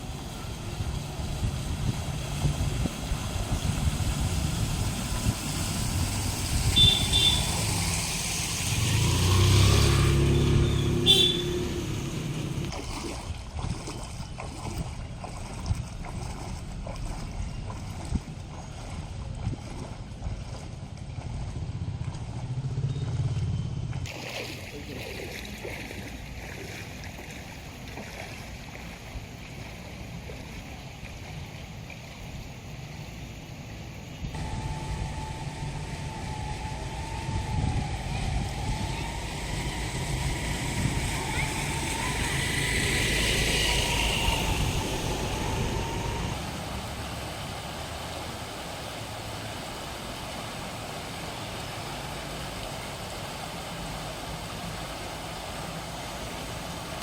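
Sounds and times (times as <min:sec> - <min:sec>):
engine rumbling: 0:00.0 - 0:57.0.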